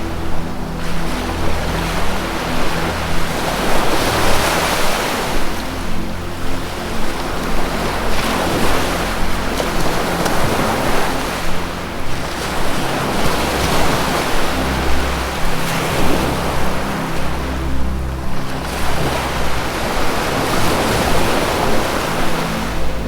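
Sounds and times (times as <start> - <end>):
low music drone: 0.0 - 23.0
ocean surf washing: 0.0 - 23.0.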